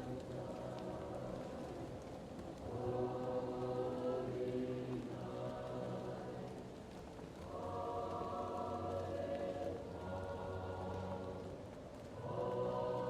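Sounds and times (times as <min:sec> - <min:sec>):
faint fireplace crackling: 0:00.0 - 0:13.0
muffled choir singing: 0:00.0 - 0:13.0.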